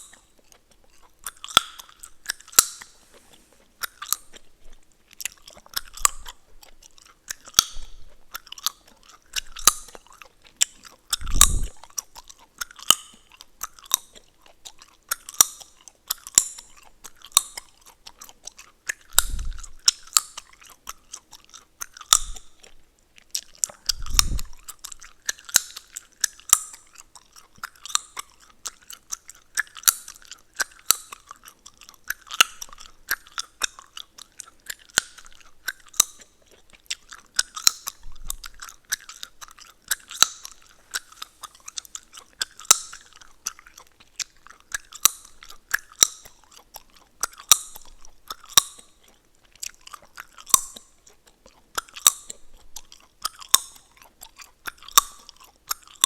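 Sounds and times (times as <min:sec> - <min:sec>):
gum chewing wet smacks: 0:00.0 - 0:56.0.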